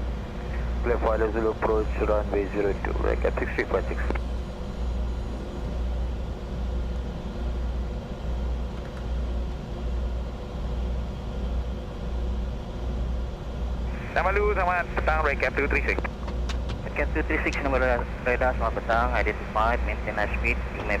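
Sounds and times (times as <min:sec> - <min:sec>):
cockpit airflow and engine rumble: 0:00.0 - 0:21.0
faint steady tones: 0:00.0 - 0:21.0.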